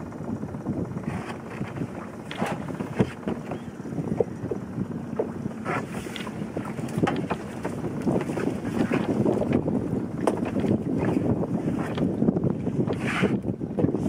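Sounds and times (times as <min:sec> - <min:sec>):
water against a boat: 0:00.0 - 0:14.0
wind buffeting microphone: 0:00.0 - 0:14.0.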